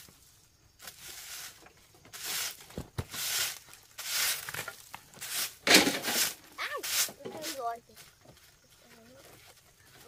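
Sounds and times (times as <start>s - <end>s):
broom sweeping: 0.0s - 10.0s.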